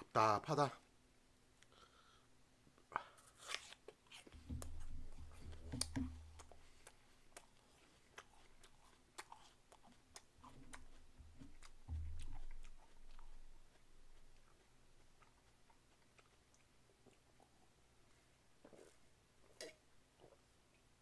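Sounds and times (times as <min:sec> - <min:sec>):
person chewing an apple: 0:03.0 - 0:20.4.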